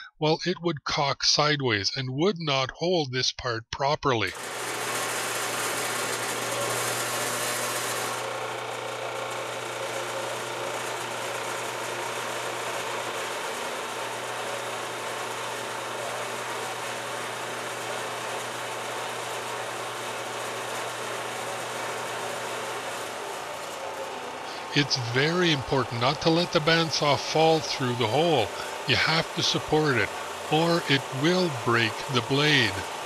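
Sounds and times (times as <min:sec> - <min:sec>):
bandsaw cutting metal: 0:04.3 - 0:33.0
motor hum: 0:04.3 - 0:33.0.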